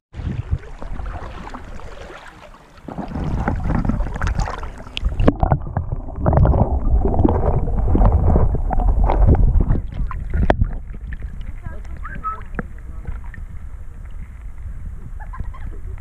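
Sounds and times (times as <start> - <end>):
water splashing and sloshing: 0.1 - 16.0
muffled underwater sound: 0.2 - 16.0.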